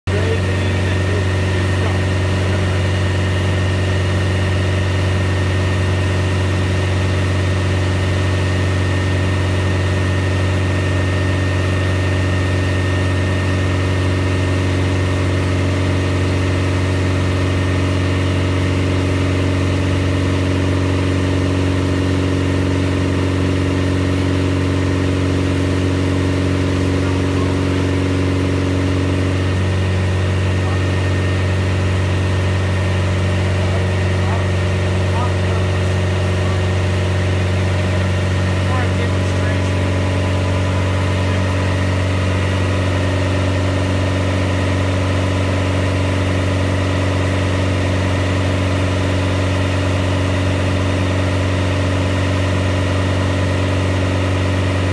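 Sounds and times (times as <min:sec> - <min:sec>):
car engine running steadily: 0:00.0 - 0:54.9.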